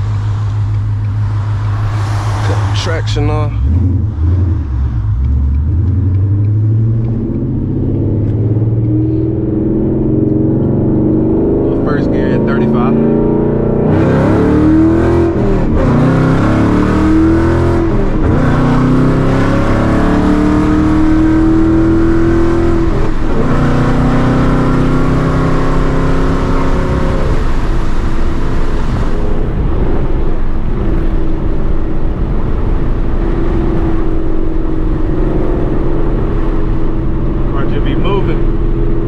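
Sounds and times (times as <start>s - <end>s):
car engine accelerating hard: 0.0s - 39.0s.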